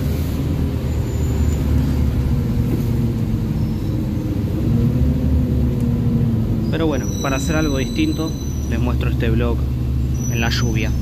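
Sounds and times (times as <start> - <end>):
bus engine drone: 0.0 - 11.0
road rumble: 0.0 - 11.0.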